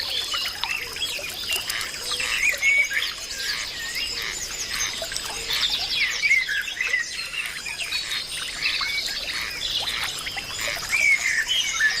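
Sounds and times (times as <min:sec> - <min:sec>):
birds calling and chirping: 0:00.0 - 0:12.0.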